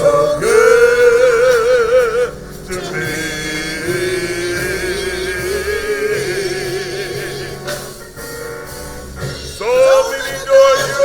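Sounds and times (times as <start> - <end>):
keyboard and bass: 0.0 - 11.0.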